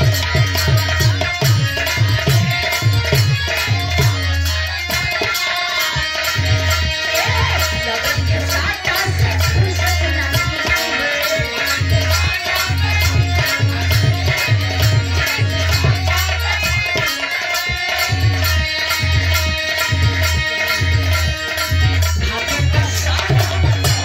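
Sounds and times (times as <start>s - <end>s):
folk music with drum beat: 0.0s - 24.0s.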